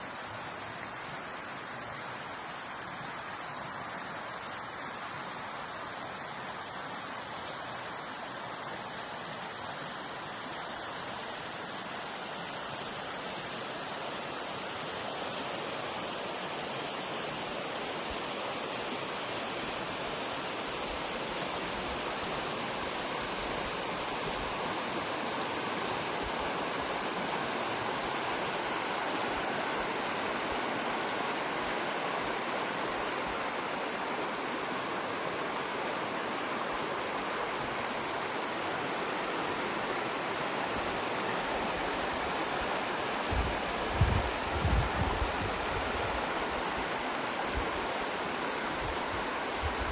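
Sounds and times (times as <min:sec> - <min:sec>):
running water rushing: 0:00.0 - 0:49.9.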